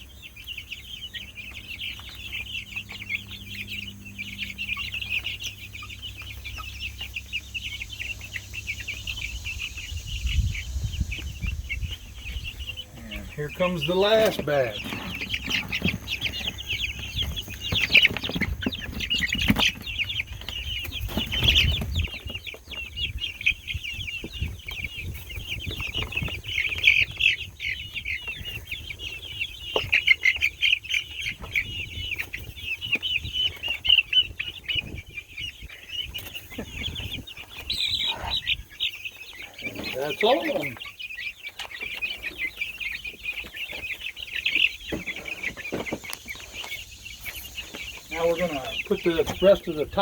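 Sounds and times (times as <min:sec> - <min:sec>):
chicks peeping: 0:00.0 - 0:50.0.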